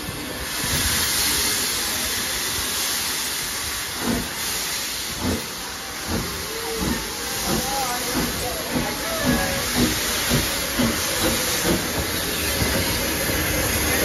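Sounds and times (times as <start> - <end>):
locomotive exhaust chuffs: 0.0 - 14.0
steam locomotive hissing: 0.0 - 14.0.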